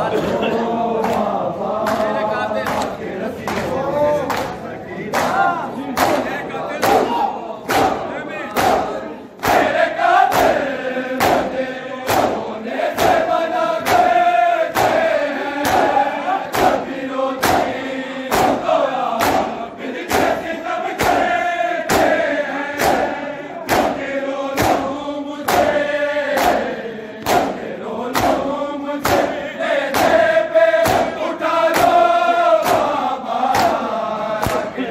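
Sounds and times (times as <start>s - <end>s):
men chanting in unison: 0.0s - 34.9s
hands slapping chests: 1.0s - 3.7s, 4.3s - 21.3s, 21.9s - 22.2s, 22.8s - 34.8s.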